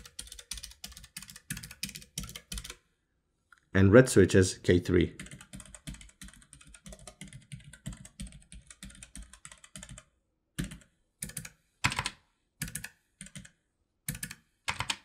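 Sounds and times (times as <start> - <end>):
mechanical keyboard typing: 0.0 - 2.8, 5.2 - 15.0.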